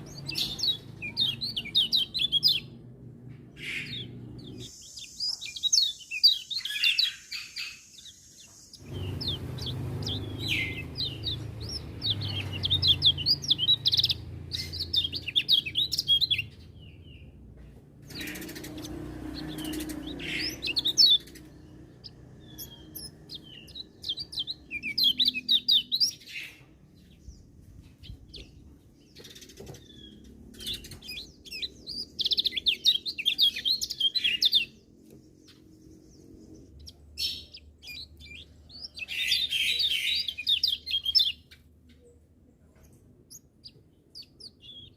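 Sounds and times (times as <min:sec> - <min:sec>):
bird twittering song: 0:00.0 - 0:44.9.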